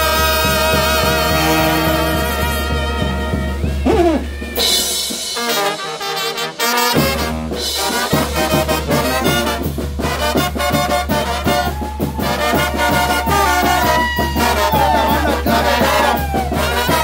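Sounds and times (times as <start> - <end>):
bass drum and drum kit: 0.0 - 5.8, 6.9 - 17.0
brass band playing: 0.0 - 17.0.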